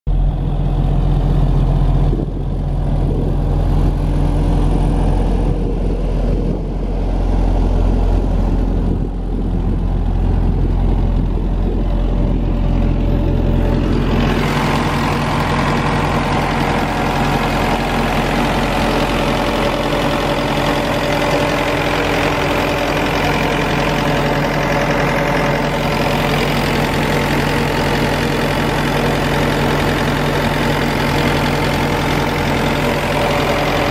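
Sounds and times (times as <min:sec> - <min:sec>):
air compressor diesel engine running: 0:00.1 - 0:33.9.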